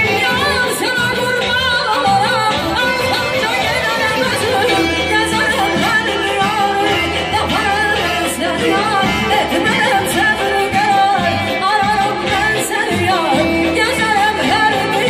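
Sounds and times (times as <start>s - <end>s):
keyboard: 0.0s - 15.0s
saz: 0.0s - 15.0s
violins: 0.0s - 15.0s
woman singing through microphone: 0.0s - 15.0s.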